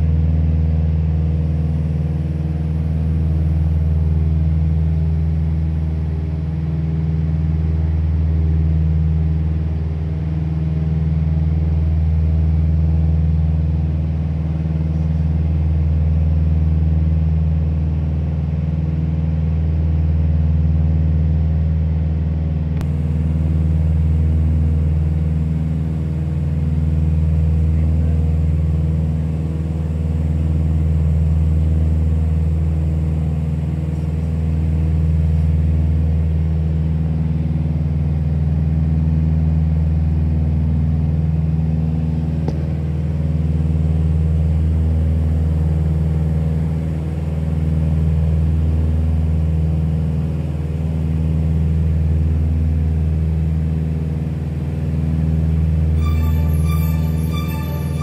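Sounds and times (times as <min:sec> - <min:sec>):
propeller airplane engine droning: 0:00.0 - 0:58.0.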